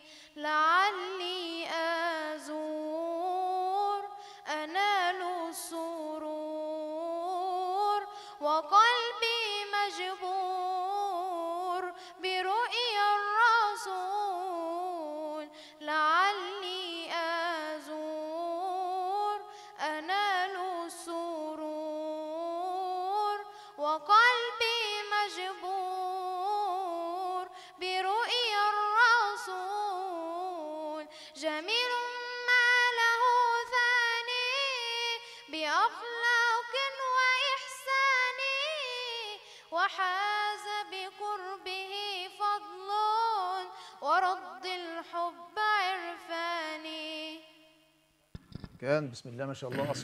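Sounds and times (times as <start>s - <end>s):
boy singing unaccompanied: 0.4s - 47.4s.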